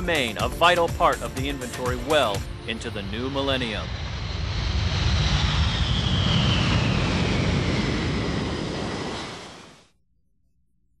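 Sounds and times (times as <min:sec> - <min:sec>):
jet engines passing by: 0:00.2 - 0:09.9.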